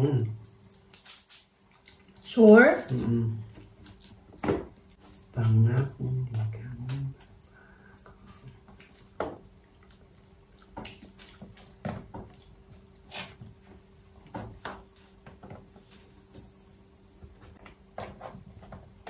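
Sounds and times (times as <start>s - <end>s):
faint steady hum: 0.0s - 19.0s
food crackling and squishing: 0.4s - 5.4s, 8.0s - 19.0s.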